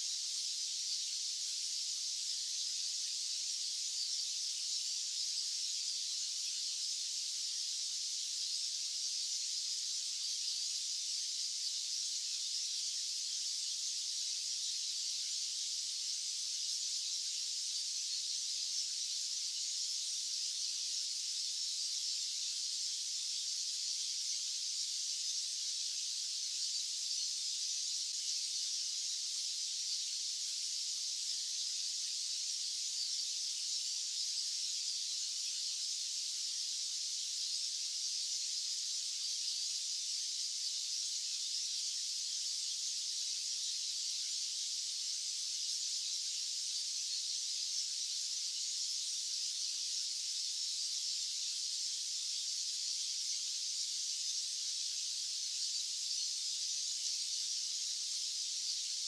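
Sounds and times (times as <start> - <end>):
high-pitched white-noise hiss: 0.0 - 59.0.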